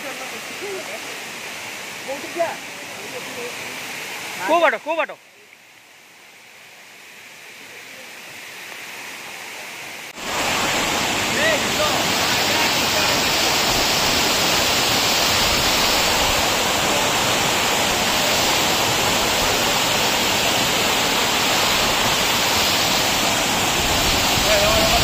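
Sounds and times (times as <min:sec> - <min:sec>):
waterfall rushing over rock: 0:00.0 - 0:25.0.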